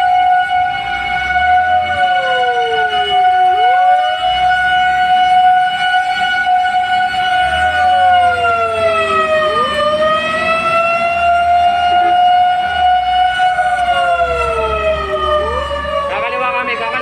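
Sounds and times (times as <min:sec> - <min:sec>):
fire engine siren wailing: 0:00.0 - 0:17.0.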